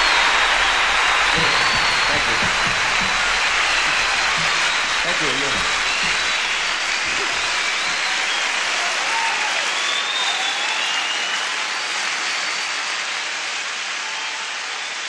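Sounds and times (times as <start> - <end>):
audience applauding and cheering: 0.0 - 15.0
high voices cheering: 0.0 - 15.0.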